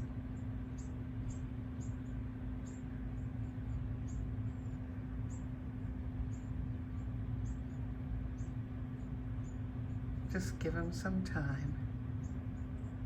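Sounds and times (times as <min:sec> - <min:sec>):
steady low hum: 0:00.0 - 0:13.0
small bird chirping: 0:00.1 - 0:13.0.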